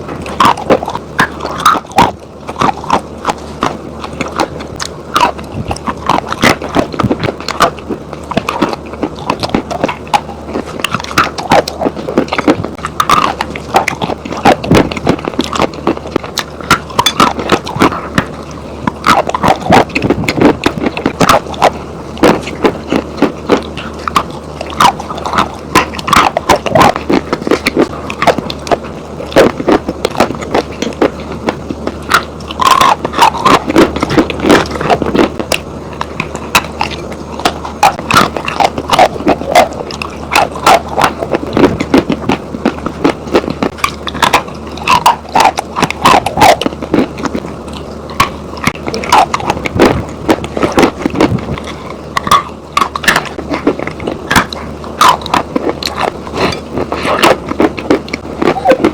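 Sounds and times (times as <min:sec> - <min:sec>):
chalk and clay being chewed: 0:00.0 - 0:58.9.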